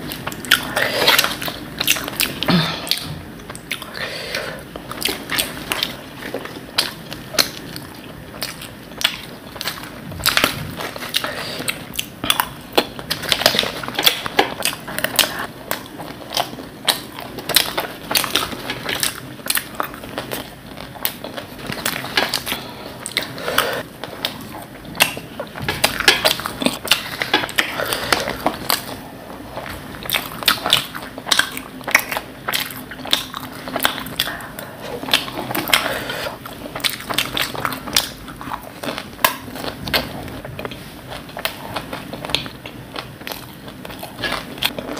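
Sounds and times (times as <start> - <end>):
crunching and chewing crisp food: 0.0 - 44.9.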